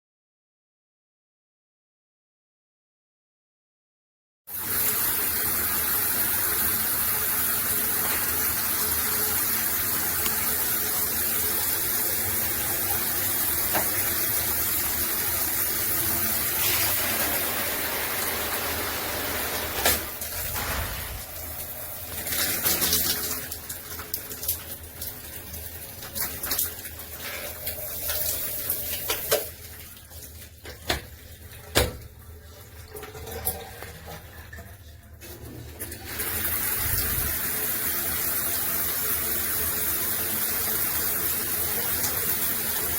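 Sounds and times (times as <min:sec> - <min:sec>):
shower water rushing: 0:04.5 - 0:34.6, 0:35.4 - 0:42.9.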